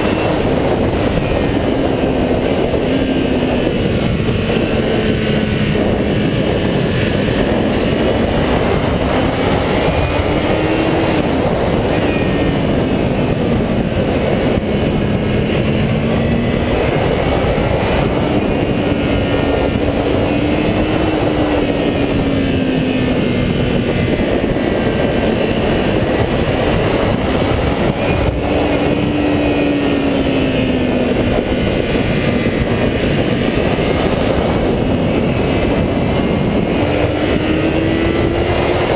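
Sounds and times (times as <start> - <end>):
loud steady rushing noise: 0.0 - 38.9
motorcycle engine revving: 0.0 - 38.9.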